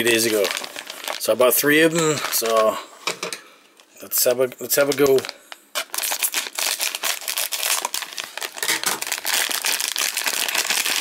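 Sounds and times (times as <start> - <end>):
plastic bag crinkling: 0.0 - 2.7, 4.7 - 11.0.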